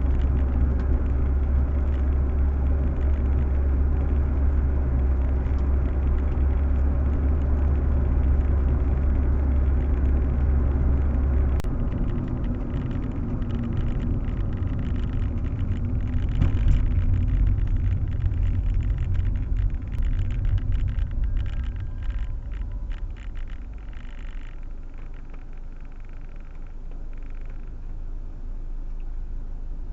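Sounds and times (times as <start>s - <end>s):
car engine and road drone: 0.0s - 29.9s.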